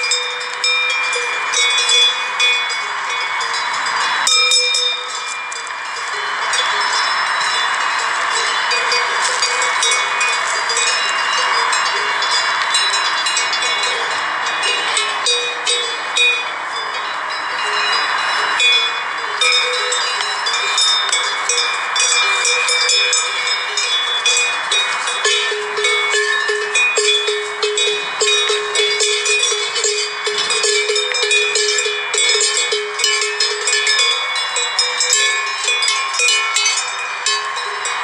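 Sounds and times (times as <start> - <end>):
sheep bells clanking: 0.0 - 38.0.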